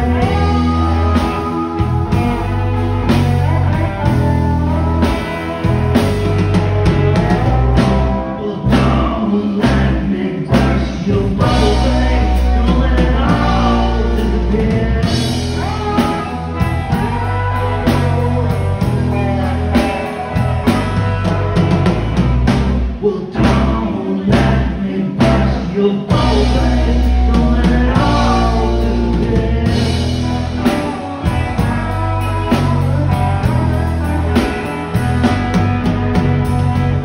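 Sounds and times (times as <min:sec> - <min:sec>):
bass line: 0:00.0 - 0:37.0
live rock band playing: 0:00.0 - 0:37.0.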